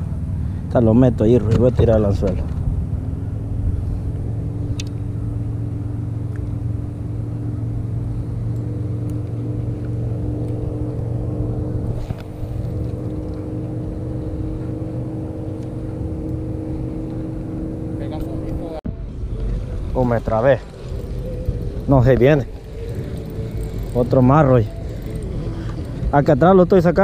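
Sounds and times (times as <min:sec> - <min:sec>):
boat motor humming: 0:00.0 - 0:27.0
low rumble: 0:00.0 - 0:27.0.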